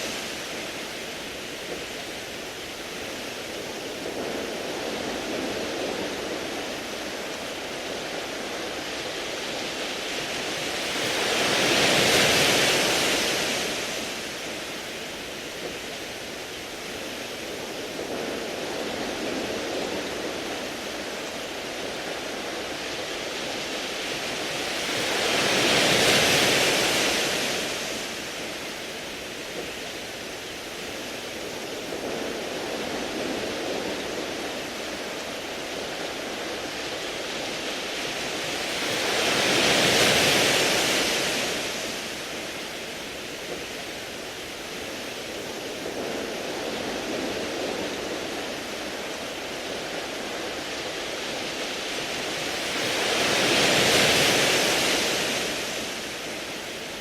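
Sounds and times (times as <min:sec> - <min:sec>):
waves washing on pebble beach: 0:00.0 - 0:57.0.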